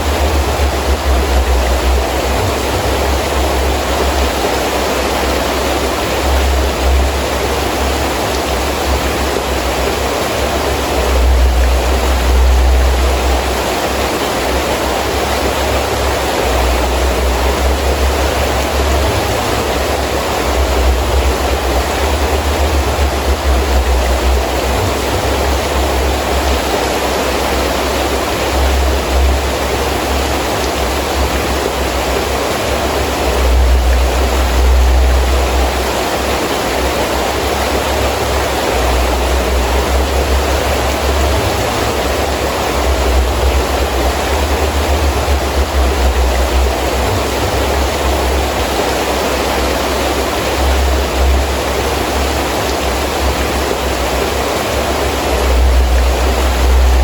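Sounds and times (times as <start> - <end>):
gusting wind rumble: 0.0 - 57.0
heavy rain: 0.0 - 57.0.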